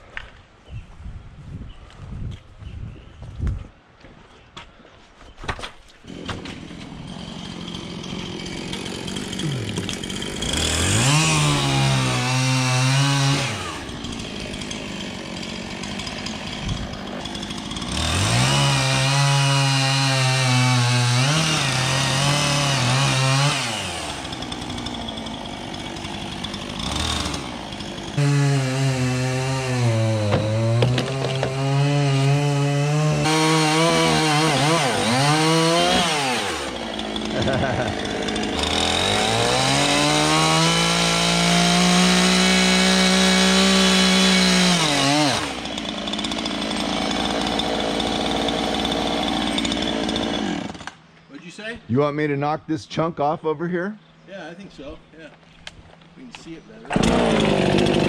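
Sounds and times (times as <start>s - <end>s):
chainsaw cutting wood: 6.0s - 51.0s, 56.4s - 58.0s.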